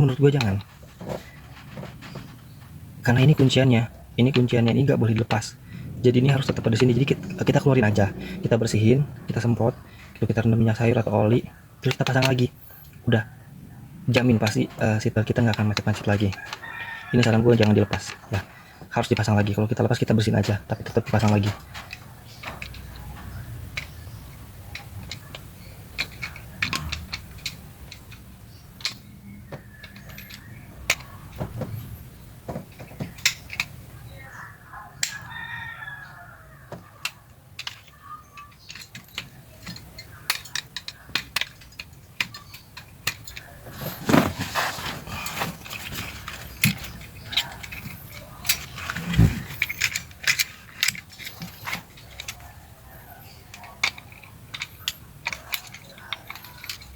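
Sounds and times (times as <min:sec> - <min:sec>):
seatbelt parts clicking and rattling: 0:00.0 - 0:13.0, 0:14.1 - 0:34.2, 0:36.6 - 0:56.9.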